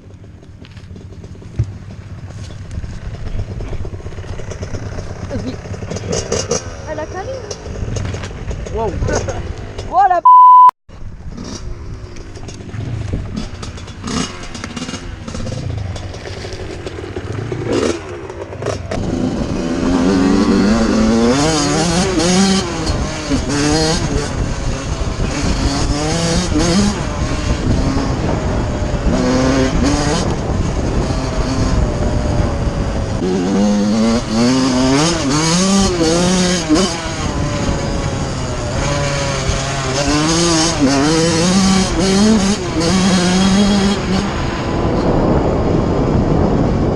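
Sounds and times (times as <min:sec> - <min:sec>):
two-stroke motocross engine revving: 0:03.0 - 0:09.9, 0:11.3 - 0:46.9.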